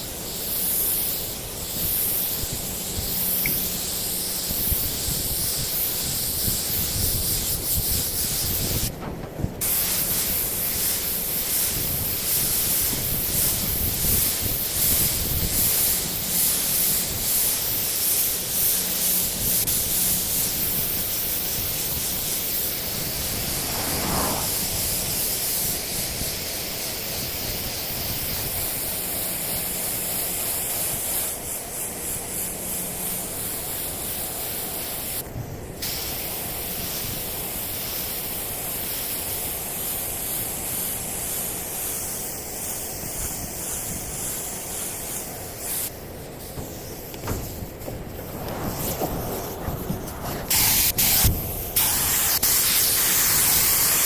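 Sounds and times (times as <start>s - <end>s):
compressed air hissing from spray gun: 0.0s - 54.0s.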